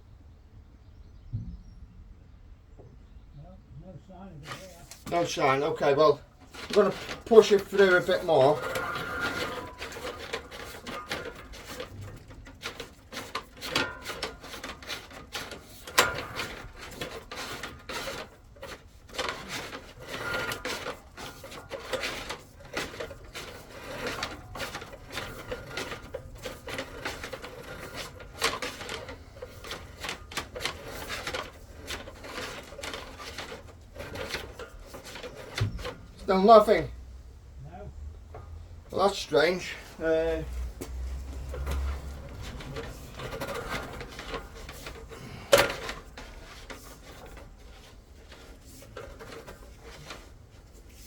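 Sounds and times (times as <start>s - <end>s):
push-rod clicking and rattling in pipe: 4.4s - 37.0s, 38.1s - 51.0s.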